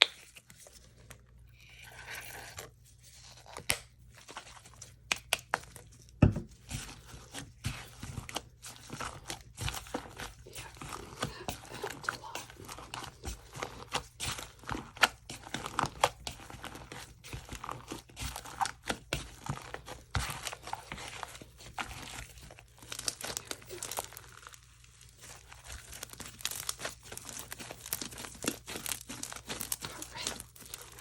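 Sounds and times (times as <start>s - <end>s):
hands squishing slime: 1.6s - 31.0s.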